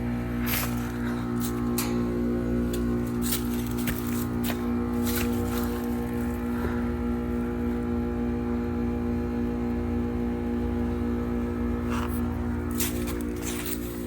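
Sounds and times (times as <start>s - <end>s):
heat pump compressor humming: 0.0s - 14.0s.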